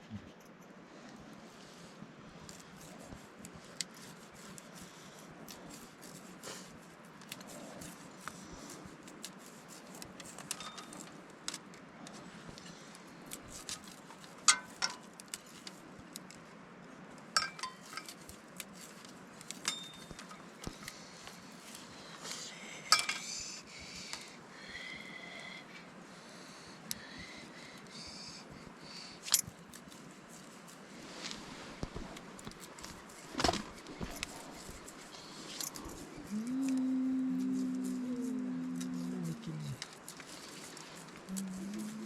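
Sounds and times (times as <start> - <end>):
low background noise: 0.0 - 42.0.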